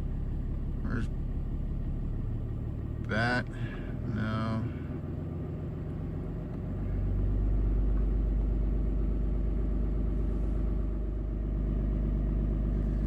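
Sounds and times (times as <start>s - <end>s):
pickup engine idling: 0.0s - 13.0s.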